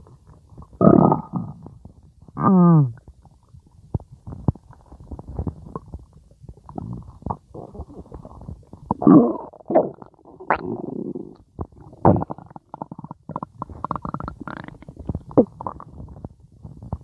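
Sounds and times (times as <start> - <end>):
bubbling gurgles and pops: 0.0 - 17.0
stomach growling: 0.0 - 17.0.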